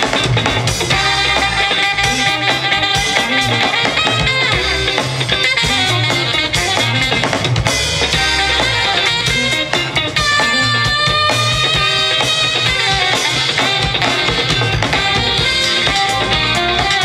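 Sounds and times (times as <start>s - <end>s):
drum kit beat: 0.0s - 17.0s
electric bass: 0.0s - 17.0s
electric guitar: 0.0s - 17.0s
saxophone: 0.0s - 17.0s.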